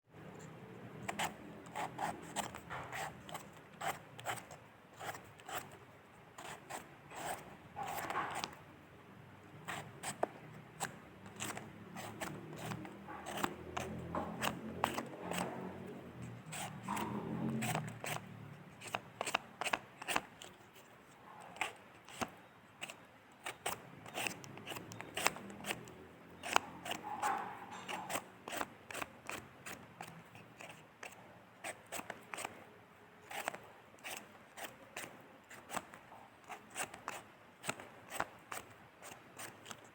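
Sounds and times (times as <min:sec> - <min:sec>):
blade scraping potato skin: 0:00.4 - 0:05.8, 0:06.4 - 0:08.6, 0:09.6 - 0:39.9.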